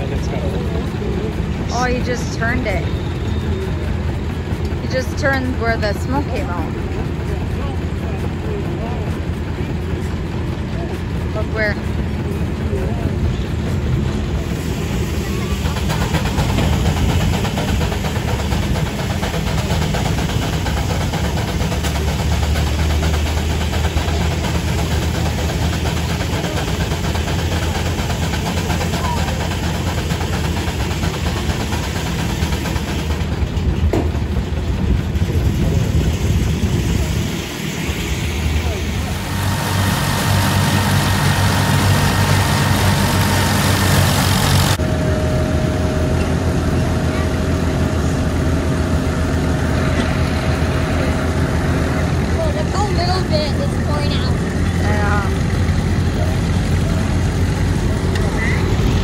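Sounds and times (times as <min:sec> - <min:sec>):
steam traction engine running: 0:00.0 - 0:59.0
threshing machine working: 0:00.0 - 0:59.0.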